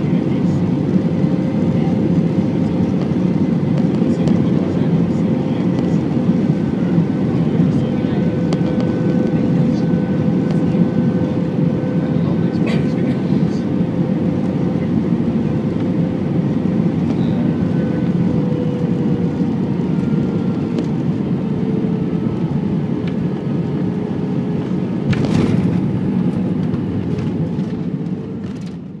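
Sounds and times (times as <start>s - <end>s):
aircraft engine and airflow rumble: 0.0s - 29.0s.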